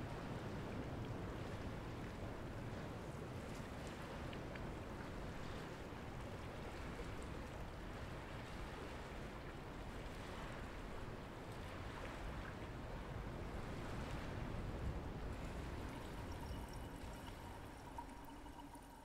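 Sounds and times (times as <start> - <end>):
wind rumble on microphone: 0.0 - 18.7.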